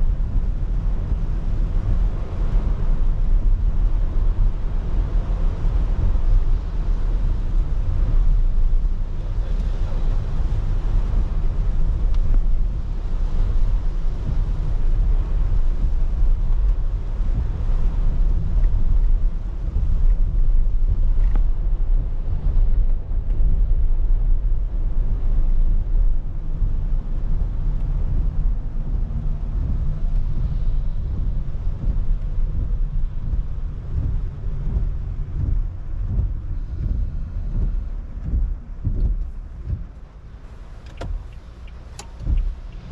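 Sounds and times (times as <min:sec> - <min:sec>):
engine and tyres rumbling: 0:00.0 - 0:42.9
rain and road spray hiss: 0:00.0 - 0:42.9.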